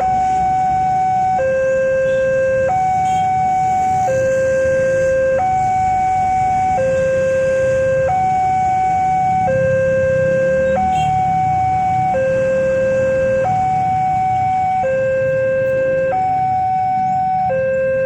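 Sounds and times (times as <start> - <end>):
two-tone crossing alarm: 0.0 - 18.0.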